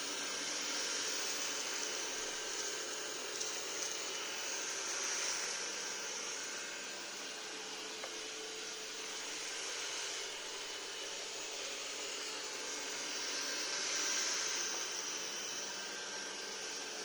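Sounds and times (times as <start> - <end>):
robot vacuum cleaner running: 0.0 - 17.0.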